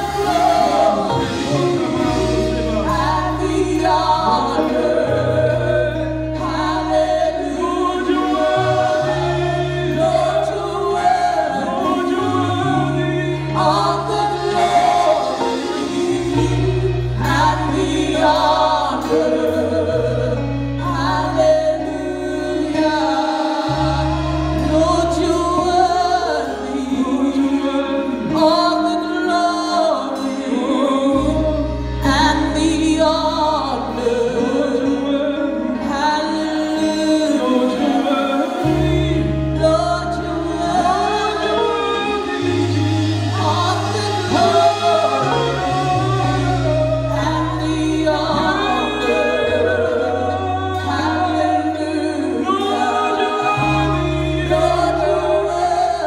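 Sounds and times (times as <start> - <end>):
gospel worship singing: 0.0 - 56.0.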